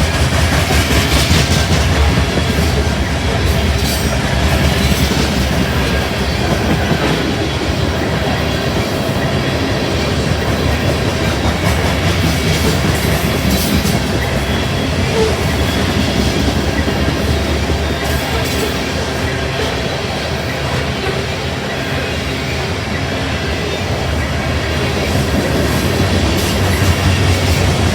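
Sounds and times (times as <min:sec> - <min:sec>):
freight train cars rolling past: 0:00.0 - 0:27.9.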